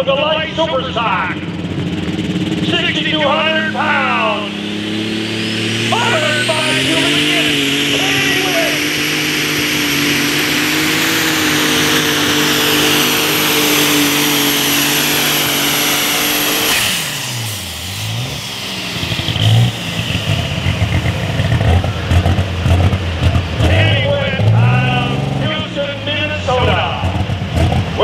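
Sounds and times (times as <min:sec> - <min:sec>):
high steady whine: 0:00.0 - 0:27.1
tractor engine under load: 0:00.0 - 0:28.0.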